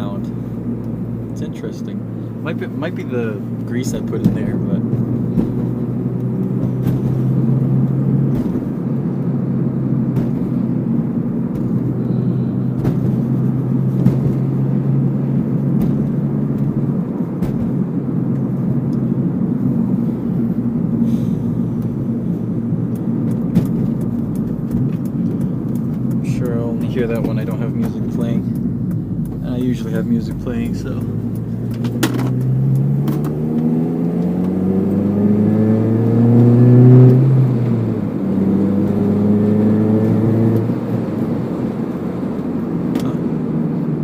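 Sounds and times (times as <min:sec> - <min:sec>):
car engine and road noise: 0:00.0 - 0:44.0.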